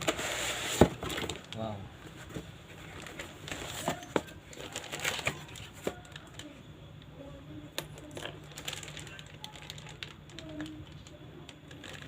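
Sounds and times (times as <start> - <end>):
packaging crinkling and rustling: 0.0 - 6.5, 8.0 - 12.0.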